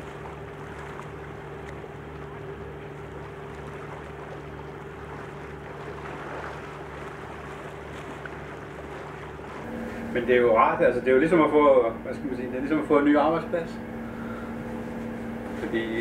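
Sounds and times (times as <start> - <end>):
constant higher machine tone: 0.0 - 16.0
ship engine low drone: 0.0 - 16.0.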